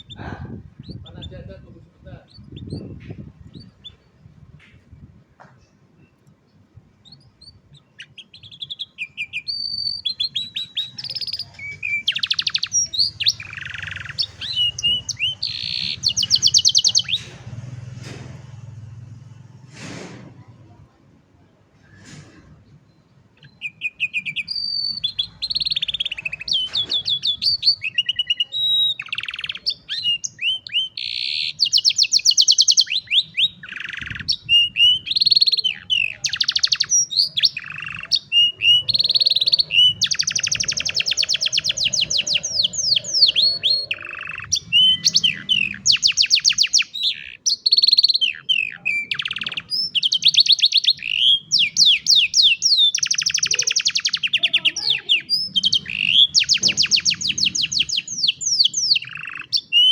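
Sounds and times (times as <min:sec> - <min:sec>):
canary singing trills: 0:00.0 - 0:04.4, 0:06.0 - 0:17.9, 0:22.9 - 0:59.9.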